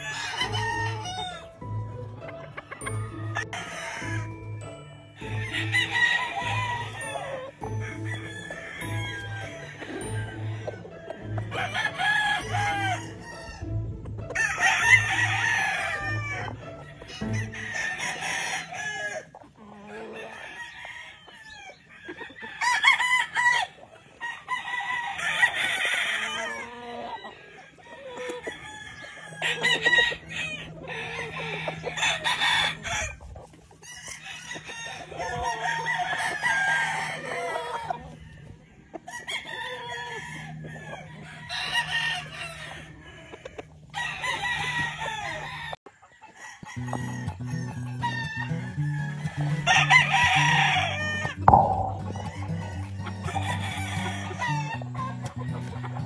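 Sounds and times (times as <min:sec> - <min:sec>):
roosters crowing: 0:00.0 - 0:56.0.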